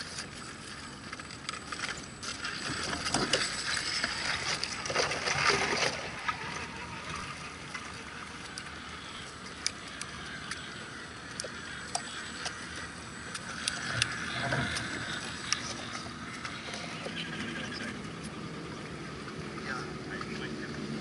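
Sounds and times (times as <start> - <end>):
toy truck motor whirring: 0.0 - 4.9, 5.5 - 18.3.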